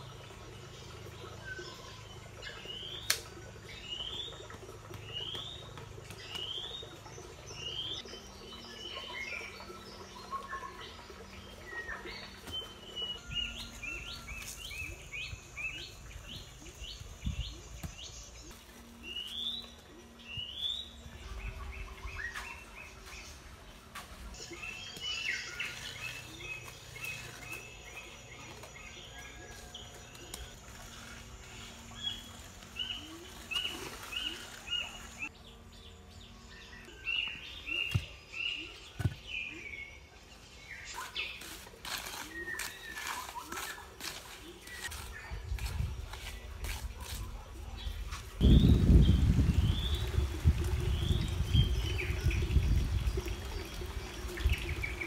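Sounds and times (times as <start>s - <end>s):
birds chirping and singing: 0.4s - 55.0s.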